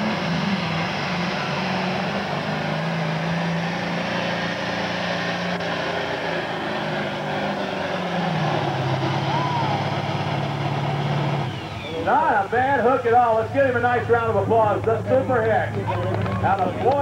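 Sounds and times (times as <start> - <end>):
tractor diesel engine at full load: 0.0 - 17.0.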